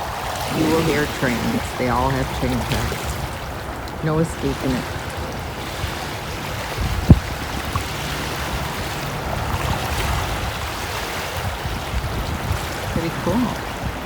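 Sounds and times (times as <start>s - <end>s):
river water along shore: 0.0s - 14.0s
wind on microphone: 0.0s - 14.0s.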